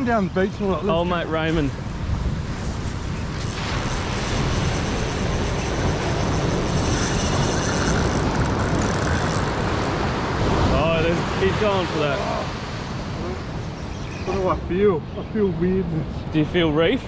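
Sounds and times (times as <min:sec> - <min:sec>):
surf rushing: 0:00.0 - 0:17.0
wind buffeting microphone: 0:00.0 - 0:17.0.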